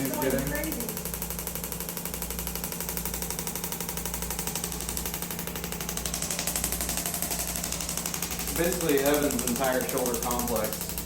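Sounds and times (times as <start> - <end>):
steady low hum: 0.0 - 11.0
therapy handpiece rapid tapping: 0.0 - 11.0.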